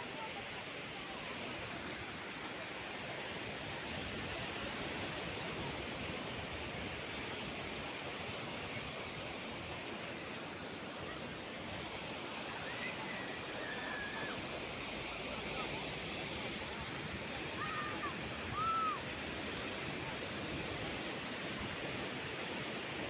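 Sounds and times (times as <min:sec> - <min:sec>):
sea surf washing onto beach: 0:01.3 - 0:23.0.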